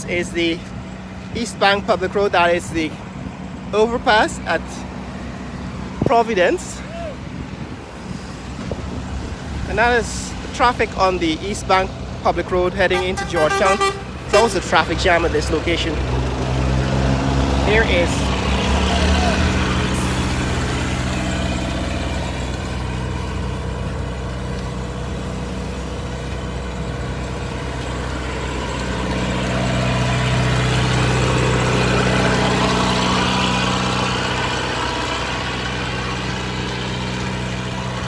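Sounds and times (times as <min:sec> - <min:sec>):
car and truck engines: 0:00.0 - 0:38.0.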